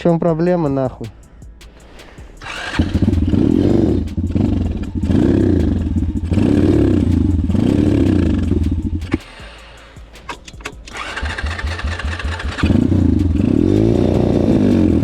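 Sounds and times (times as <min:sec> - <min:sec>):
motorbike engine starting and revving: 0:02.4 - 0:15.0.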